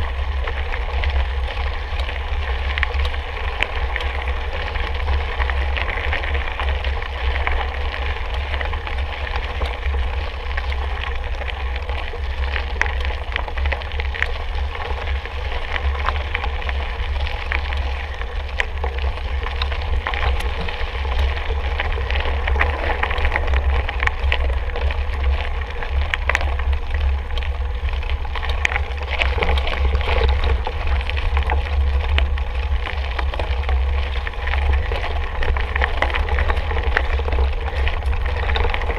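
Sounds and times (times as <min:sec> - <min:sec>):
tyres crunching on trail: 0:00.0 - 0:38.9
bike rattling clicks: 0:00.2 - 0:38.9.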